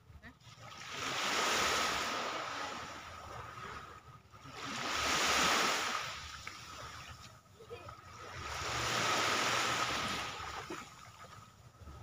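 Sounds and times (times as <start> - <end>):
small waves breaking on beach: 0.3 - 12.0.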